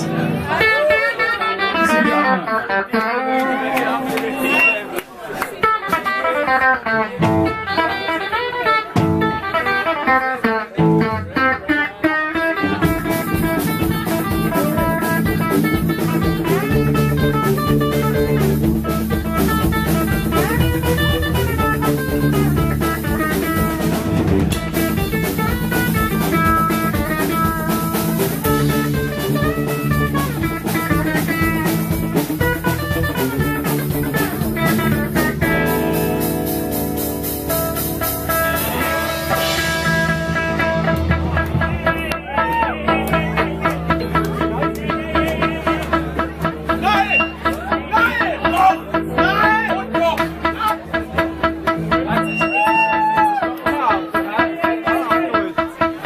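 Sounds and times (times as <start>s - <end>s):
electric guitar picking: 0.0s - 4.6s, 5.6s - 56.0s
surf rock band playing: 0.0s - 4.8s, 5.6s - 56.0s.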